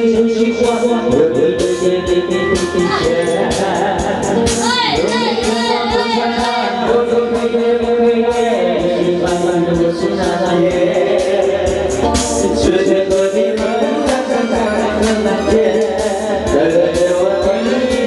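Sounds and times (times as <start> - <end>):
person singing: 0.0 - 18.0
steady drum beat: 0.0 - 18.0.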